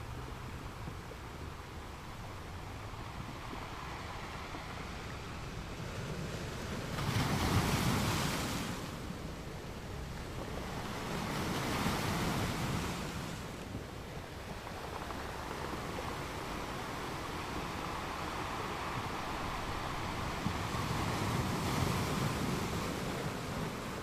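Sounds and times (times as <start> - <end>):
wind gusting across microphone: 0.0 - 24.0.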